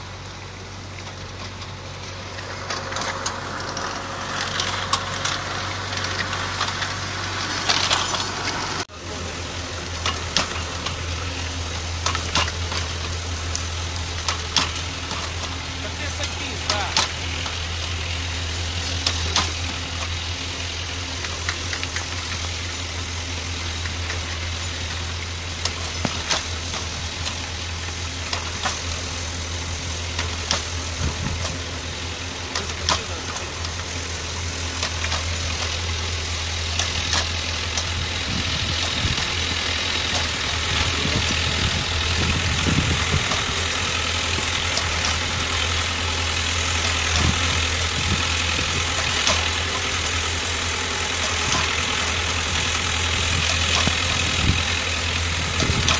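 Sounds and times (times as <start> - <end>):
tractor engine running: 0.0 - 55.9
sharp clicks and knocks: 0.9 - 8.9, 9.7 - 55.9.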